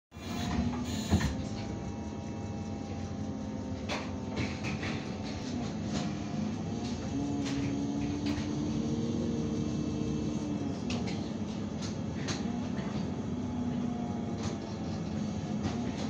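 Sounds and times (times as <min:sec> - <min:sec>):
bus engine hum: 0:00.2 - 0:16.0.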